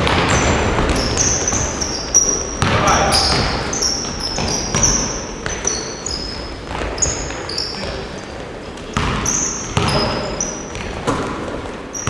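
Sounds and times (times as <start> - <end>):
basketballs bouncing on floor: 0.0 - 12.0
sneaker squeaks: 0.0 - 12.0.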